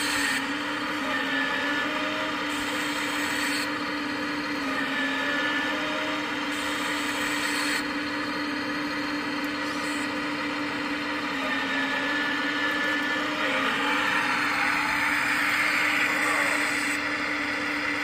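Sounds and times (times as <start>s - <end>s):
hydraulic pump whine: 0.0s - 18.0s.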